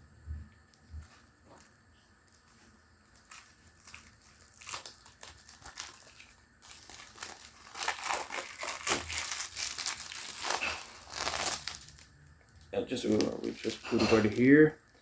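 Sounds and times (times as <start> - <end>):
plastic wrap crinkling: 1.0 - 15.0.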